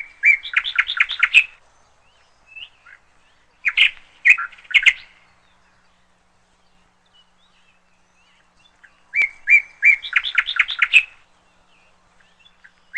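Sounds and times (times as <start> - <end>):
distant bird chirps: 0.0 - 12.9
songbird singing: 0.0 - 12.9.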